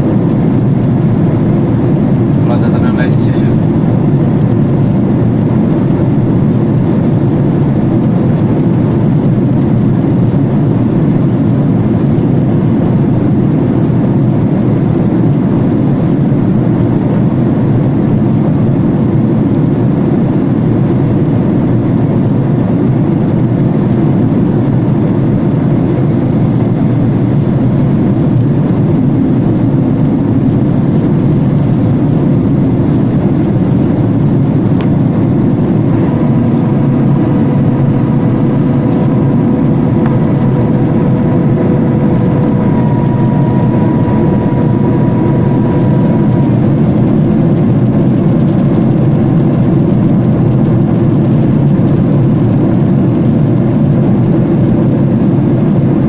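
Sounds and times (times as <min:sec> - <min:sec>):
airplane cabin drone: 0:00.0 - 0:56.0.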